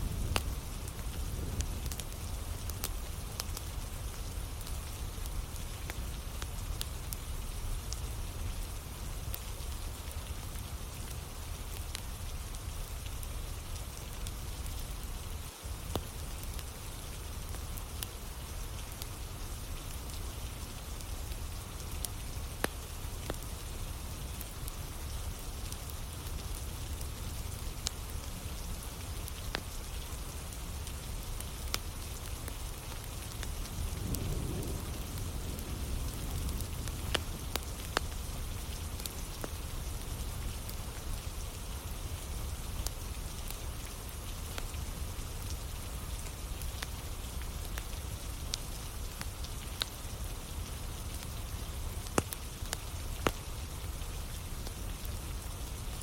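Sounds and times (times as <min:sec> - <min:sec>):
steady rain: 0:00.0 - 0:56.0
wood fire crackling and popping: 0:00.0 - 0:56.0.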